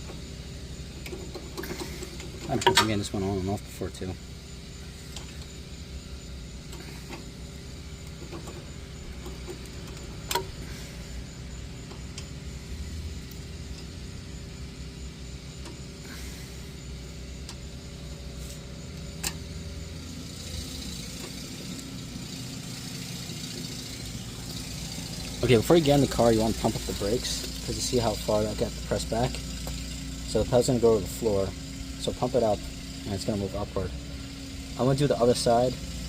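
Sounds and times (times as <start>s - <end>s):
low mechanical rumble and hum: 0.0s - 36.0s.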